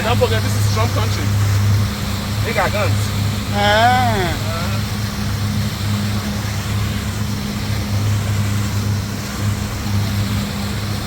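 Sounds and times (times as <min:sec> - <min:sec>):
boat motor humming: 0:00.0 - 0:11.0
constant hiss: 0:00.0 - 0:11.0.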